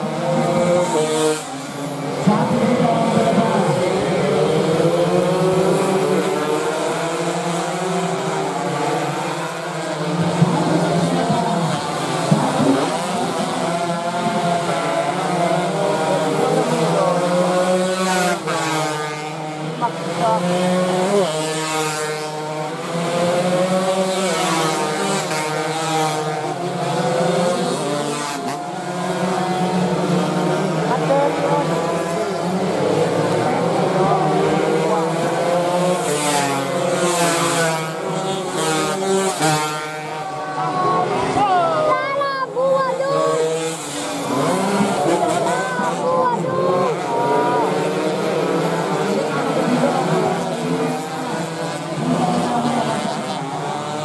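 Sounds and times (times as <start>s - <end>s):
racing motorcycle engines: 0.0s - 54.0s.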